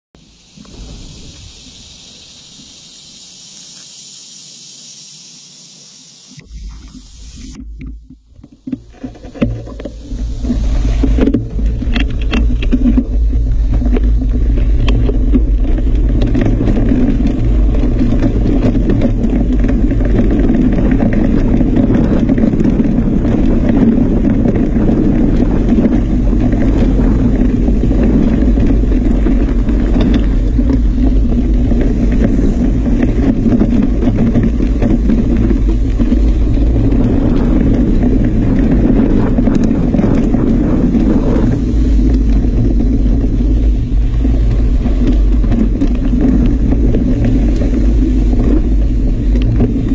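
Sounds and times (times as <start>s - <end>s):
wind rumble on microphone: 0.1s - 3.2s, 6.4s - 49.9s
small clicks and rattles: 7.8s - 49.9s.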